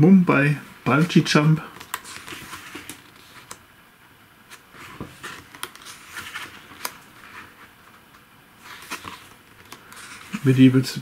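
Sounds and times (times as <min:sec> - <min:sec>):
pages turning: 0:00.9 - 0:03.6, 0:04.5 - 0:10.8.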